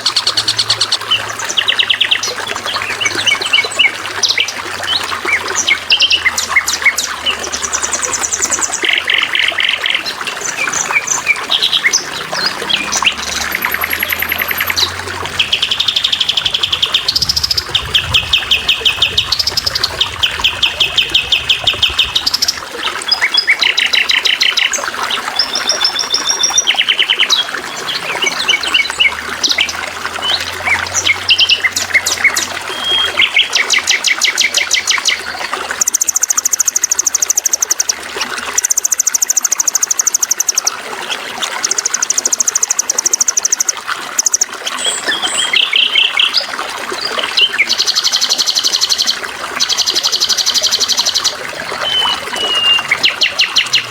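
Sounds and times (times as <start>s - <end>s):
songbirds trilling and chirping: 0.0s - 53.9s
water trickling: 0.0s - 53.9s.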